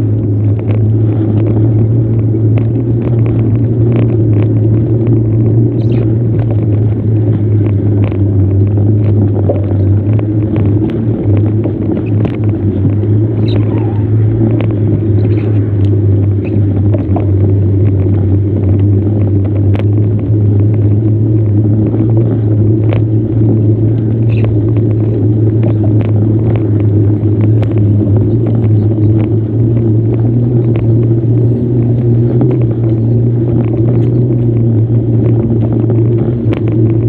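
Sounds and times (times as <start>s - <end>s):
bicycle riding rumble: 0.0s - 37.0s.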